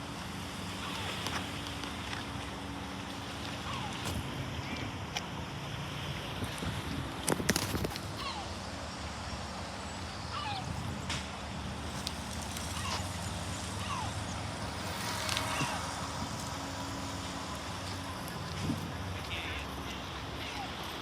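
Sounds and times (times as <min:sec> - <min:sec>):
seagulls calling: 0:00.4 - 0:05.0, 0:07.6 - 0:21.0.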